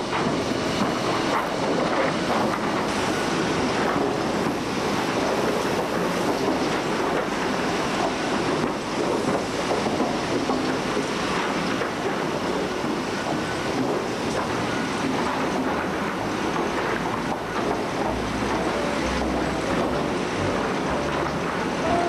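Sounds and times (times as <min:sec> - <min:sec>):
conveyor machinery running: 0:00.0 - 0:22.0.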